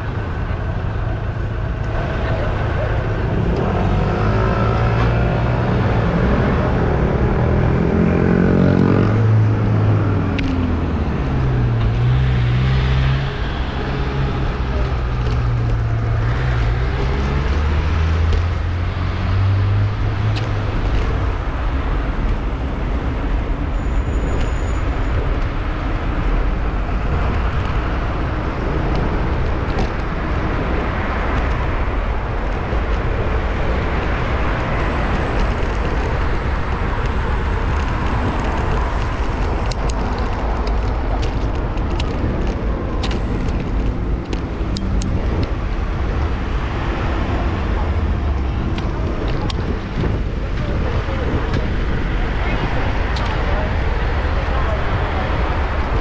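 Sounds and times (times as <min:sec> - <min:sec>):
road traffic: 0:00.0 - 0:56.0
vehicle engine hum: 0:00.0 - 0:56.0
wind and road noise rumble: 0:00.0 - 0:56.0.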